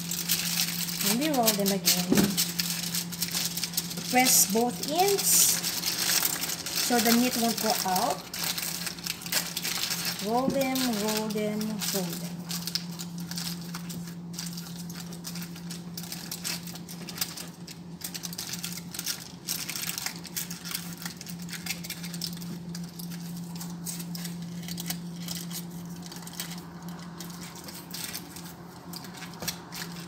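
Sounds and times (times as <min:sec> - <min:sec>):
aluminum foil crinkling: 0:00.0 - 0:30.0
steady low hum: 0:00.0 - 0:30.0.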